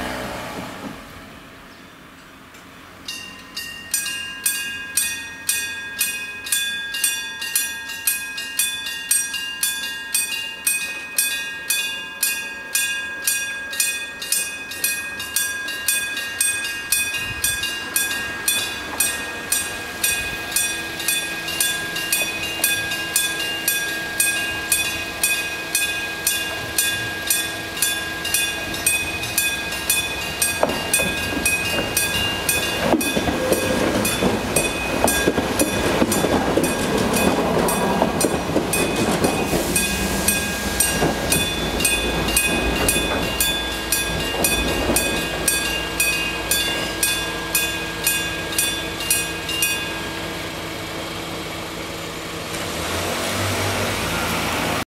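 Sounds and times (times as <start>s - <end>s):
electric train passing: 0.0s - 54.8s
level crossing bell ringing: 3.1s - 50.8s.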